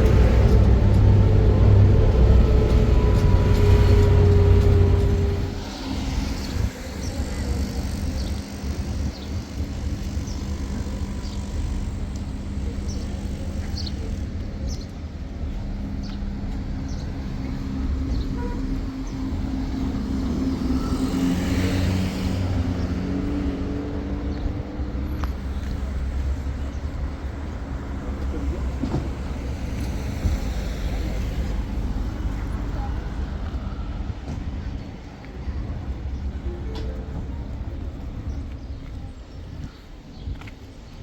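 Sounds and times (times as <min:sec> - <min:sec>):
engine low rumble: 0:00.0 - 0:41.0.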